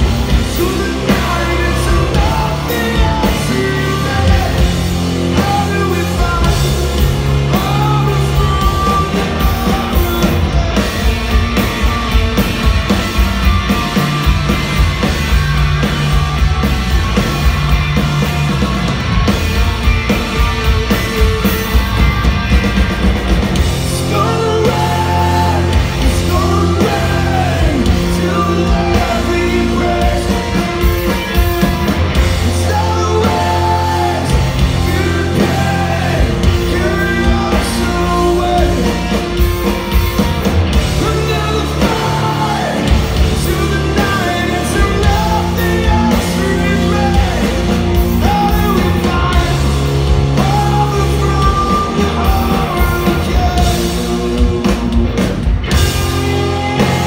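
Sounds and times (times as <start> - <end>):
lead vocal singing: 0.0 - 13.2, 23.6 - 57.0
bass guitar: 0.0 - 57.0
drum kit: 0.0 - 57.0
electric guitars: 0.0 - 57.0.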